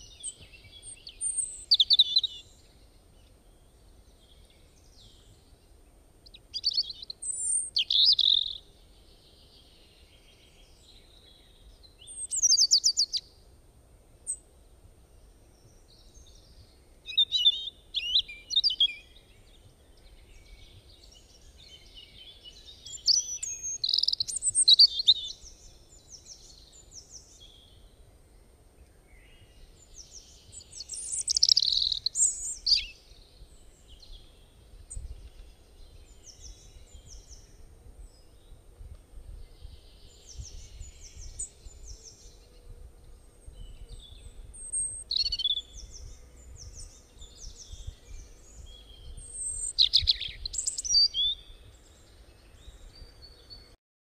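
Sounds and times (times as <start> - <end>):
songbirds singing: 0.0 - 53.8.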